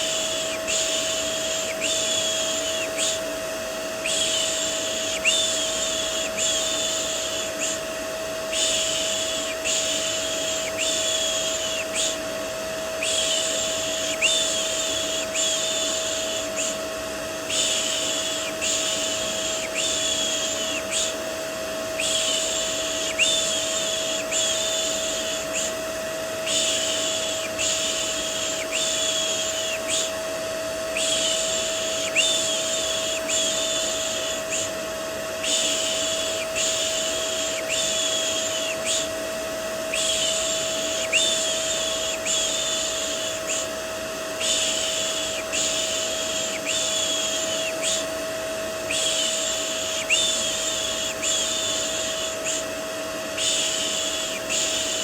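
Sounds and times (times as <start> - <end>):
vacuum cleaner drone: 0.0 - 55.0.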